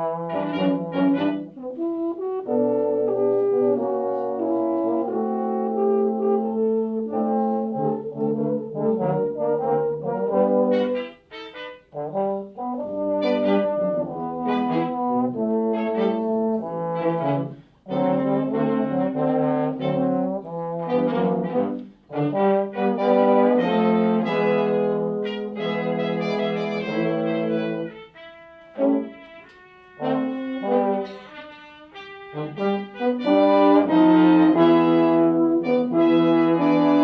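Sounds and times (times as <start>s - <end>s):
brass ensemble playing chords: 0.0s - 37.0s.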